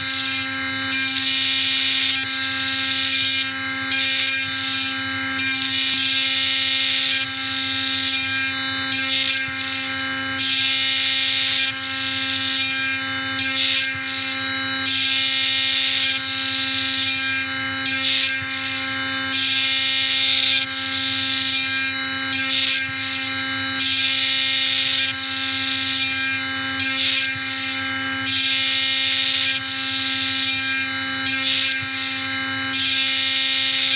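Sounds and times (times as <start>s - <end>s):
mill spindle whine: 0.0s - 33.9s.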